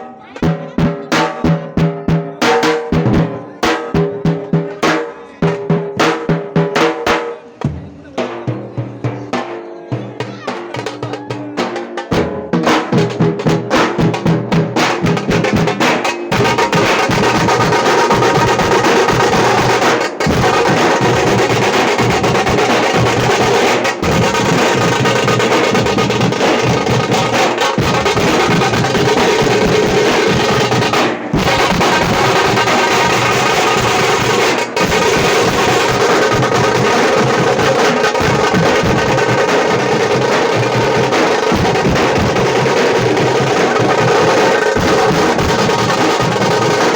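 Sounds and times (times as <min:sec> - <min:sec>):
frame drum beaten with sticks: 0:00.4 - 0:46.9.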